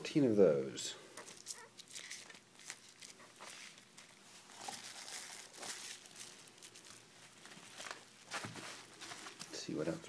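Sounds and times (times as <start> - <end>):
bubble wrap crinkling: 1.2 - 9.7.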